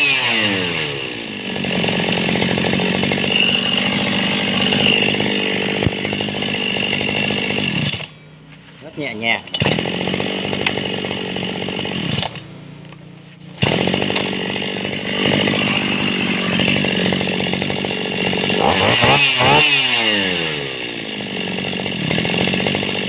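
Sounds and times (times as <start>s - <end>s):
small two-stroke engine running: 0.0s - 8.3s, 9.0s - 23.0s.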